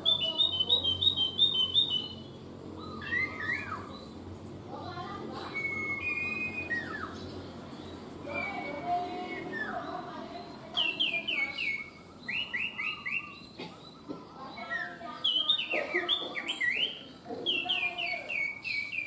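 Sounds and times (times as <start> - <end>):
songbird whistling: 0.0 - 4.2, 5.5 - 19.0.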